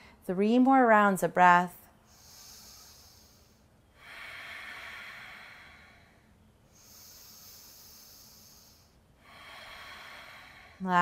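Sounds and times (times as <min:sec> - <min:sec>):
deep breathing through the nose: 0:02.0 - 0:10.9.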